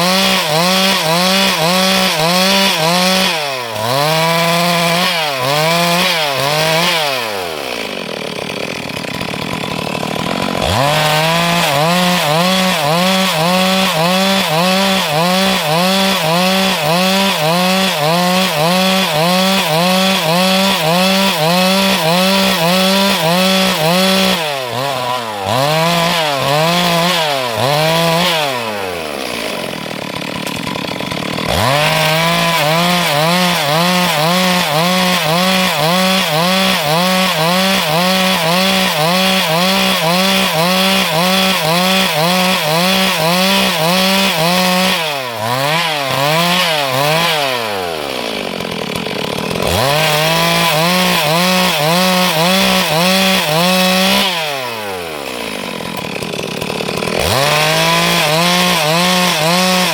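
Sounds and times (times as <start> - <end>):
chainsaw cutting wood: 0.0 - 59.9
chainsaw idling: 0.0 - 59.9.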